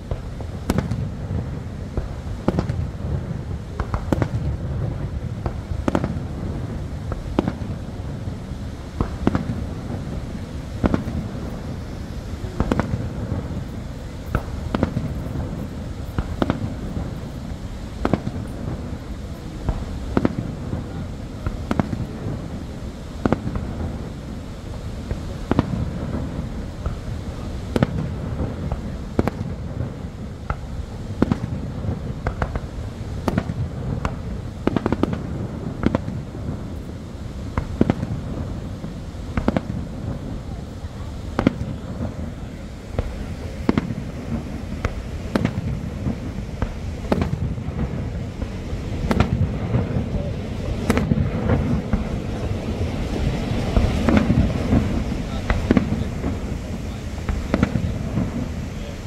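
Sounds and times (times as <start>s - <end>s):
fireworks bursting with bangs: 0.0s - 59.0s
waterfall roar: 0.0s - 59.0s.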